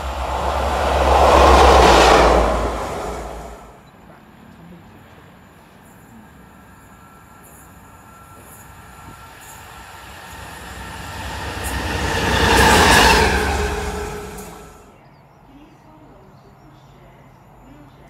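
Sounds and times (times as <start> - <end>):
diesel locomotive passing: 0.0 - 15.0.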